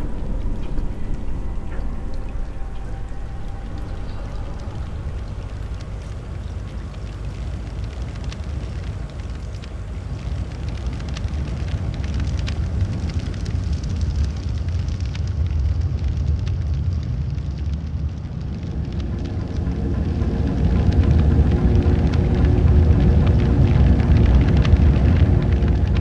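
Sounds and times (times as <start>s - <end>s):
fire rumbling and crackling: 0.0s - 26.0s.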